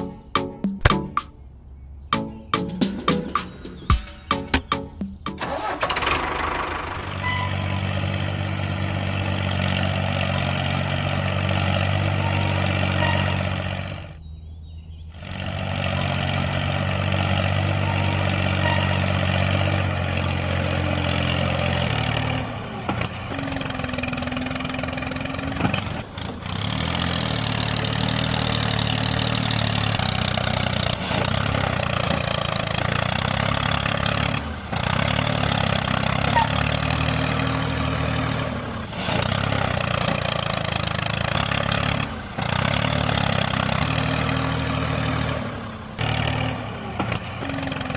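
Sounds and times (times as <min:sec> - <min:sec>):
tractor engine running: 0:00.0 - 0:01.4, 0:02.0 - 0:47.9.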